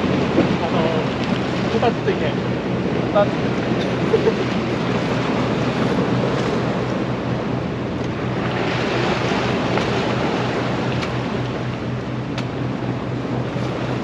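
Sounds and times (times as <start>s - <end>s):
surf on rocky shore: 0.0s - 14.0s
wind buffeting microphone: 0.0s - 14.0s.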